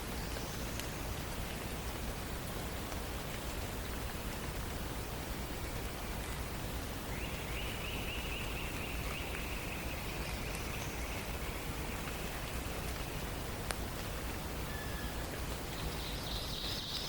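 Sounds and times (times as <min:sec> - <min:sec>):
steady rain-like hiss: 0:00.0 - 0:17.0.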